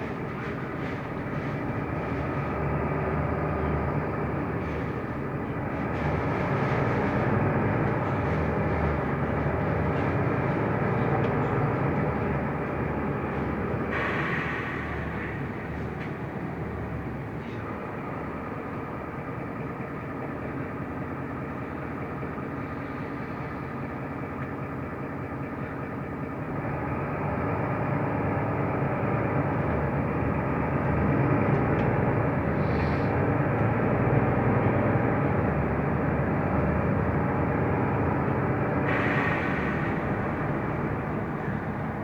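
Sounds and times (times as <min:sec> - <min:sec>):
bus engine and road noise: 0:00.0 - 0:42.0.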